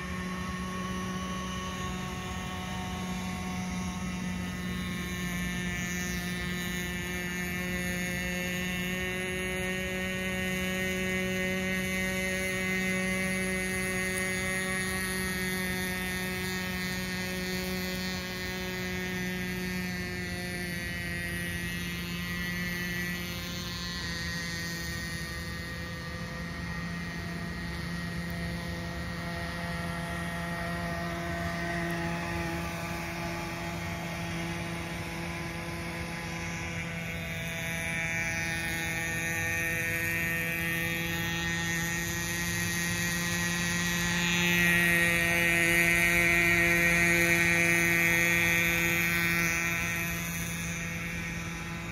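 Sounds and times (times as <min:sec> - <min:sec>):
model boat engine buzzing: 0:00.0 - 0:51.9.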